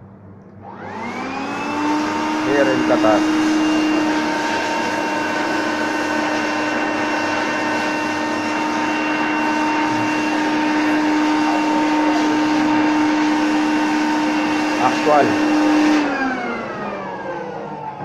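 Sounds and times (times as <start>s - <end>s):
electrical equipment whirring: 0.0s - 18.0s.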